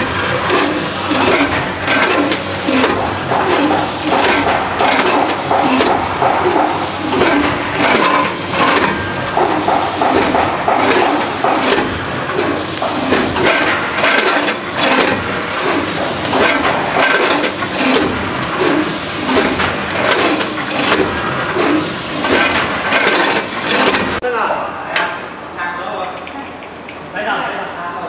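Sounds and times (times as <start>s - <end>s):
metal hopper gates clattering: 0.0s - 24.2s.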